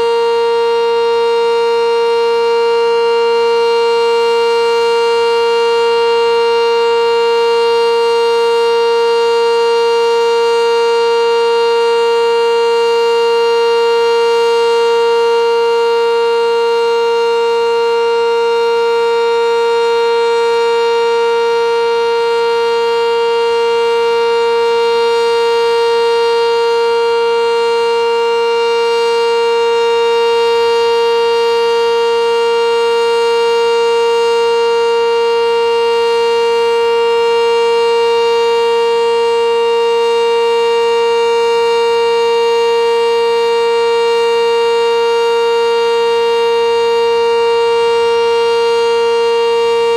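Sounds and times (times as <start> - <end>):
warning siren steady tone: 0.0 - 49.9.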